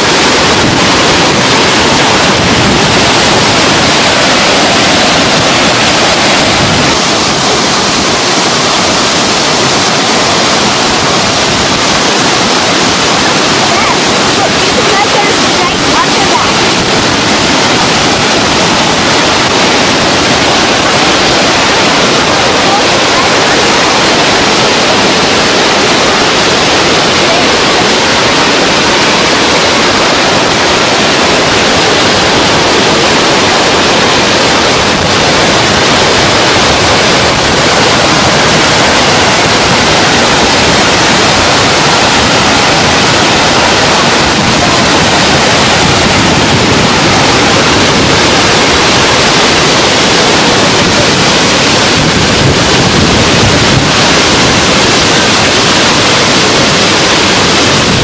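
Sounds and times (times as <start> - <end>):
water rushing over spillway: 0.0 - 58.0.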